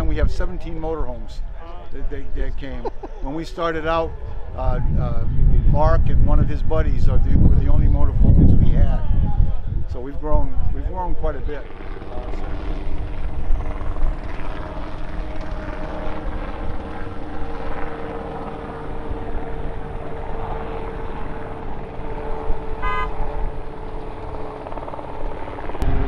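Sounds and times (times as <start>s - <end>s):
helicopters droning overhead: 0.0s - 26.0s.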